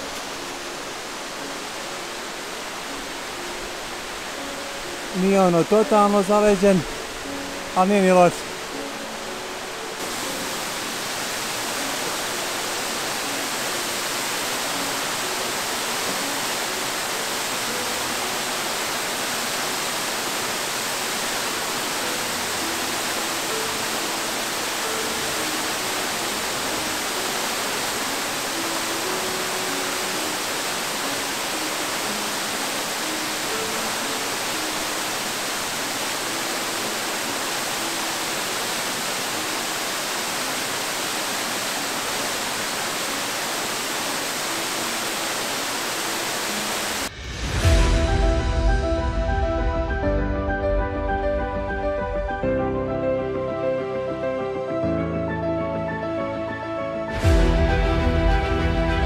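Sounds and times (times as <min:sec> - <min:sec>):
waterfall rushing: 0:00.0 - 0:54.8, 0:57.1 - 0:59.0.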